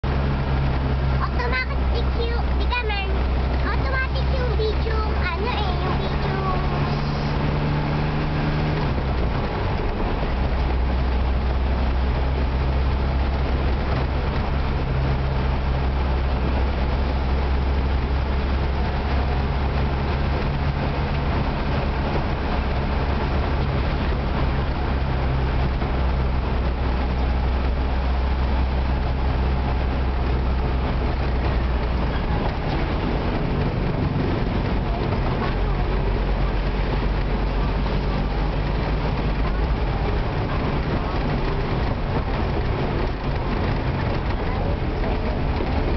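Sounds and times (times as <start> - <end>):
road rumble: 0.0 - 45.9
vehicle engine drone: 0.0 - 45.9.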